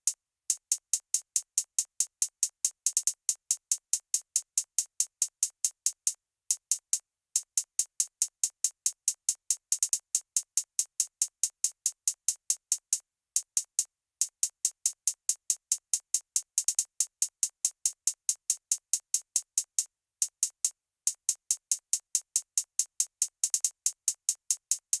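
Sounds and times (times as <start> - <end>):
drum machine hi-hats ticking: 0.0 - 25.0.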